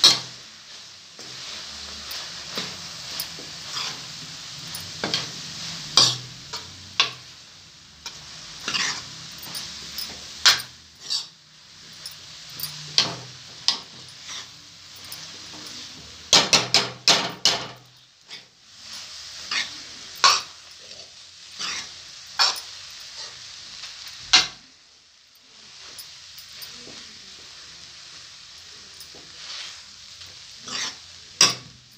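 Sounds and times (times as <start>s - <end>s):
metal spoon scraping a pan: 0.0s - 7.3s, 8.0s - 24.6s, 28.6s - 31.9s
food sizzling: 0.0s - 31.9s.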